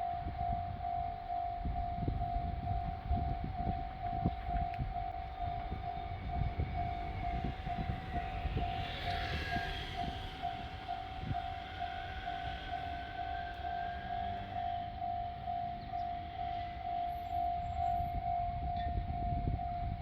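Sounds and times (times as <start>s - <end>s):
level-crossing warning bell ringing: 0.0s - 20.0s
low rumble of train: 0.0s - 20.0s.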